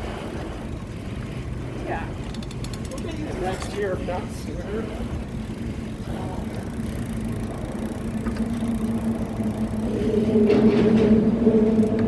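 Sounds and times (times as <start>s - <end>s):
road and wind noise: 0.0s - 12.0s
vehicle engine hum: 0.0s - 12.0s.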